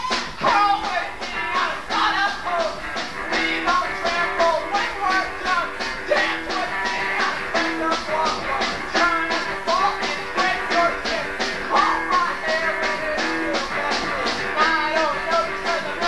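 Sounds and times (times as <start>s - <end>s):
drums beating: 0.0s - 16.0s
live rock band: 0.0s - 16.0s.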